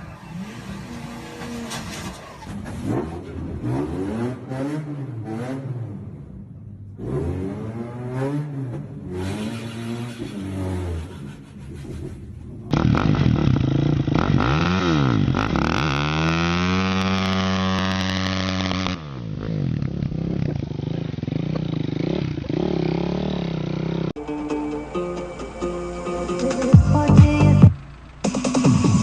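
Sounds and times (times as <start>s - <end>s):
vehicle engines revving: 0.0s - 29.0s.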